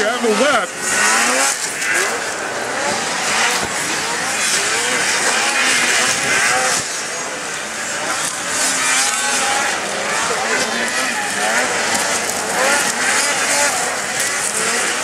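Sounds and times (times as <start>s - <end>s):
snowmobile engines revving: 0.0s - 15.0s.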